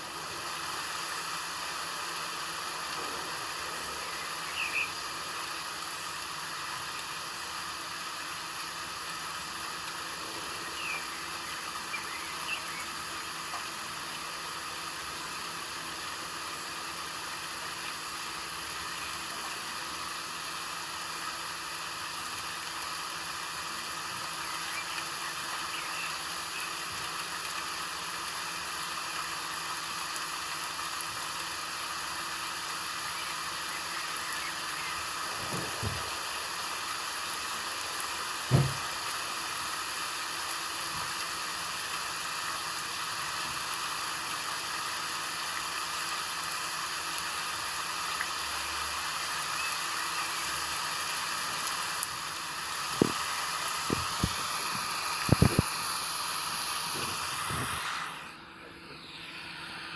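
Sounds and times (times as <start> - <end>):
steady rain falling: 0.0 - 58.3.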